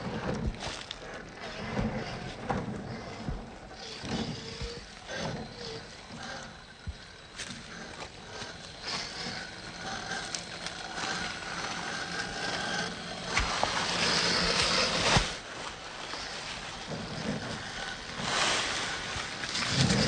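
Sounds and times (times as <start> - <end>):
tyres crunching on leaves: 0.0 - 2.4, 3.0 - 20.0
rc car motor whirring: 0.0 - 20.0.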